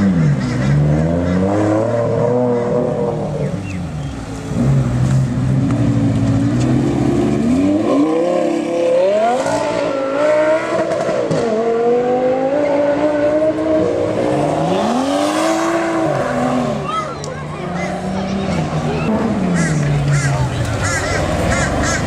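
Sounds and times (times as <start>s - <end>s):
sports car engine accelerating: 0.0s - 22.0s.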